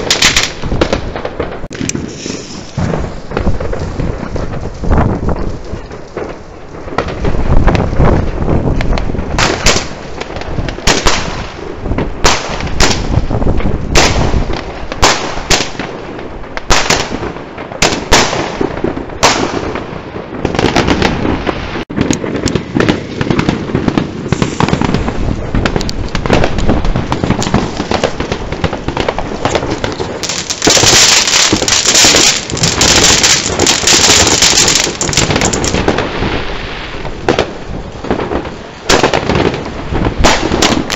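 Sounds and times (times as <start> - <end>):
fireworks bangs: 0.0 - 40.9
fireworks crackling: 0.0 - 40.9.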